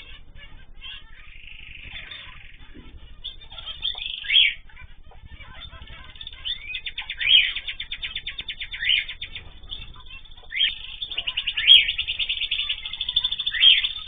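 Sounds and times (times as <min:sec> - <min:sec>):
cage birds twittering: 0:00.0 - 0:14.0
loud rising and falling bird calls: 0:00.0 - 0:14.0.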